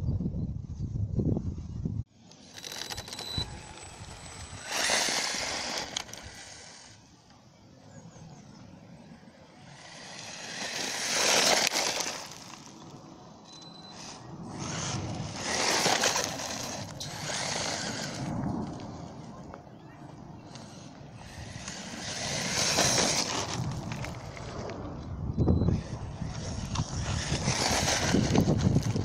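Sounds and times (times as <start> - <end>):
rc truck tyres scrabbling on gravel: 2.2 - 7.1, 9.6 - 19.6, 20.4 - 29.0.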